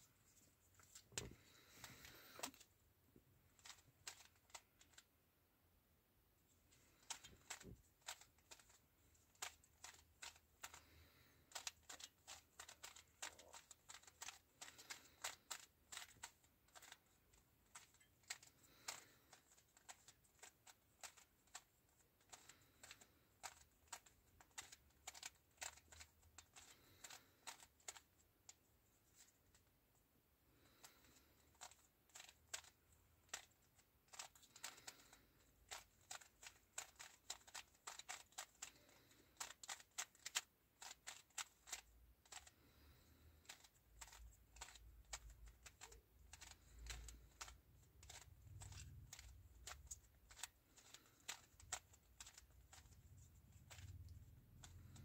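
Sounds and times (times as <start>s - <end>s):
plastic puzzle cube clicking: 0.8s - 2.7s, 3.5s - 5.1s, 6.9s - 28.6s, 30.6s - 55.0s.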